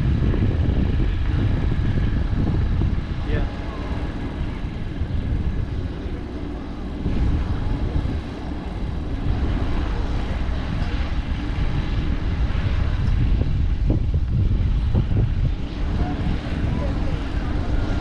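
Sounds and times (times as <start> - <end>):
aircraft radial engines droning: 0.0 - 18.0.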